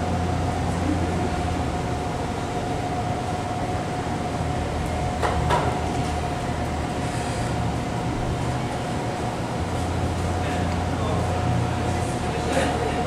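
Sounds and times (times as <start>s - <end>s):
steady low hum: 0.0s - 13.0s
thin steady whine: 0.0s - 13.0s.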